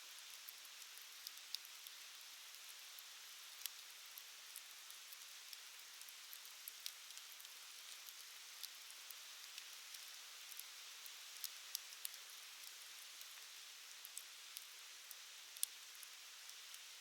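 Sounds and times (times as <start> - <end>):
campfire crackling faintly: 0.0 - 17.0.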